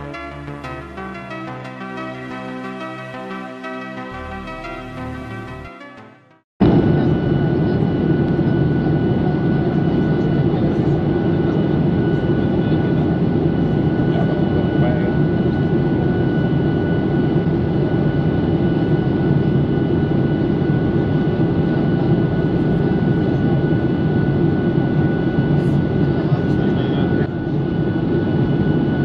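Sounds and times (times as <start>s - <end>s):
jet engine cabin drone: 0.0s - 29.0s.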